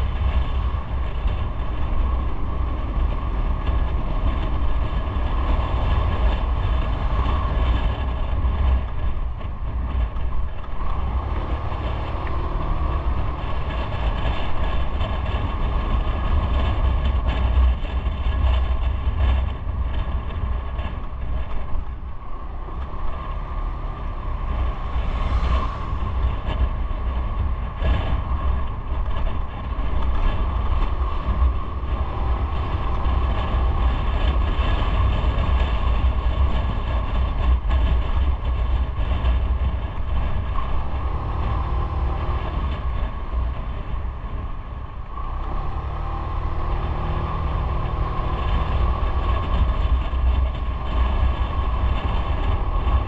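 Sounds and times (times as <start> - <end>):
motorcycle engine running: 0.0 - 53.0
road noise: 0.0 - 53.0
wind: 0.0 - 53.0.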